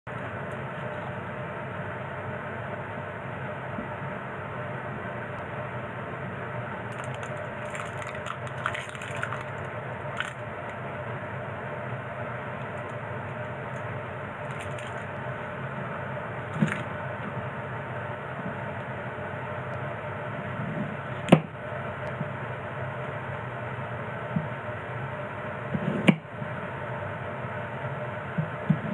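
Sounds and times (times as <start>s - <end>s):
background hum: 0.1s - 28.9s.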